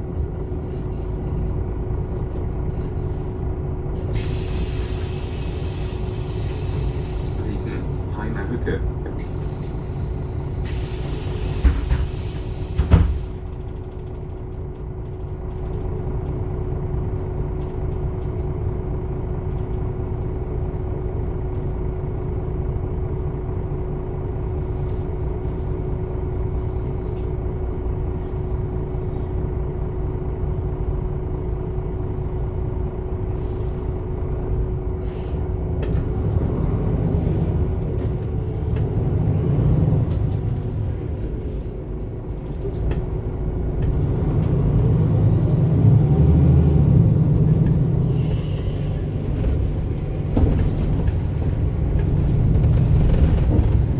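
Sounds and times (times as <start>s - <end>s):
bus engine humming: 0.0s - 53.9s.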